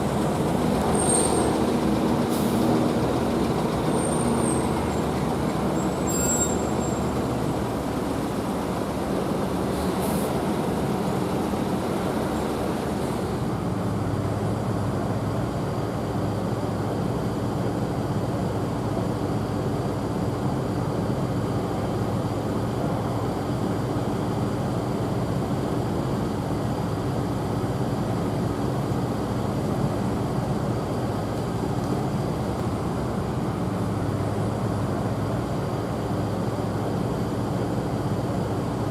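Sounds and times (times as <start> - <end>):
road noise: 0.0 - 38.9
vehicle engine hum: 0.0 - 38.9.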